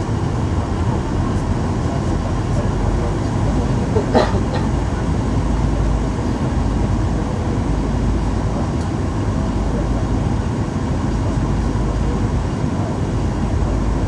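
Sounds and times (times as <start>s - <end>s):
aircraft cabin engine drone: 0.0s - 14.0s.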